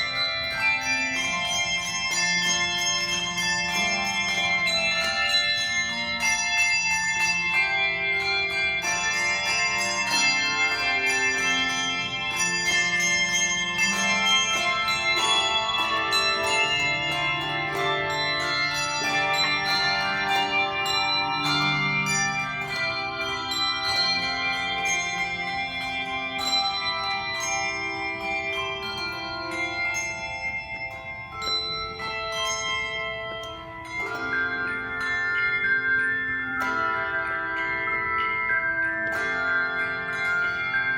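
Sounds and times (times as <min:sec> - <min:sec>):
handbell choir playing: 0:00.0 - 0:40.9.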